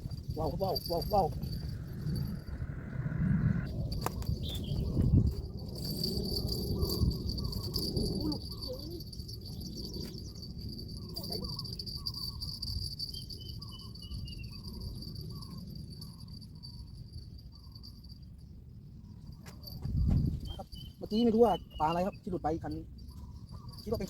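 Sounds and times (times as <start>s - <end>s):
wind rumble on microphone: 0.0s - 17.8s, 18.5s - 24.0s
insect chirps: 0.0s - 24.0s
insects droning: 0.0s - 24.0s.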